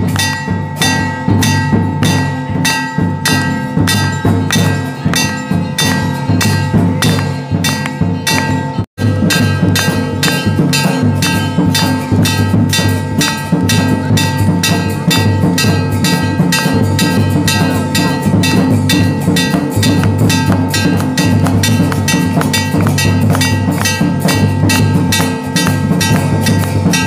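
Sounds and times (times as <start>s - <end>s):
fast percussion strokes: 0.0s - 27.0s.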